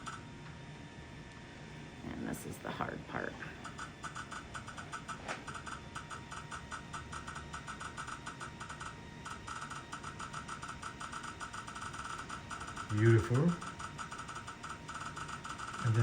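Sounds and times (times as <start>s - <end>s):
scanner ticking rapidly: 3.2s - 16.0s.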